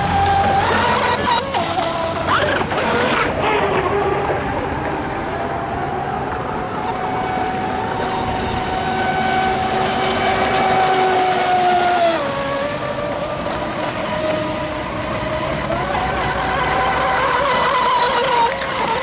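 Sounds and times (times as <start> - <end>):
toy speedboat motor whining: 0.0 - 19.0.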